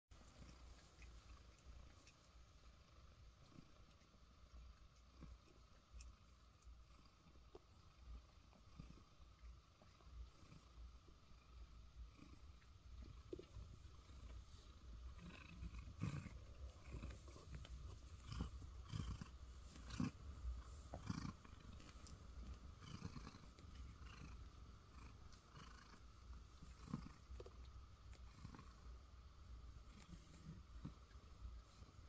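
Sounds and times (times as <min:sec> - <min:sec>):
cat purring: 0:00.2 - 0:32.0.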